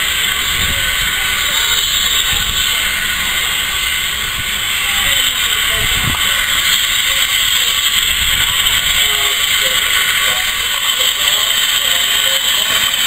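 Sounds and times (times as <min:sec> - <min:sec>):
low locomotive rumble: 0:00.0 - 0:13.0
steam hissing: 0:00.0 - 0:13.0.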